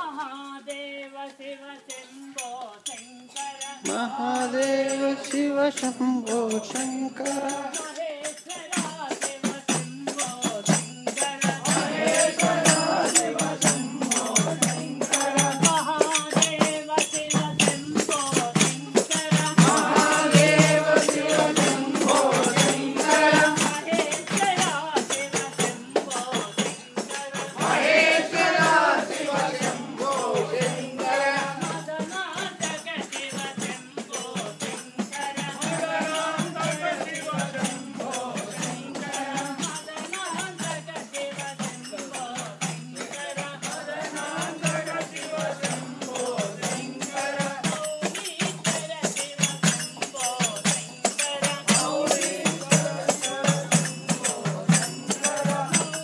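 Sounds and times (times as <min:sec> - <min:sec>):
group singing devotional song: 0:00.0 - 0:56.0
jingling hand percussion: 0:00.0 - 0:56.0.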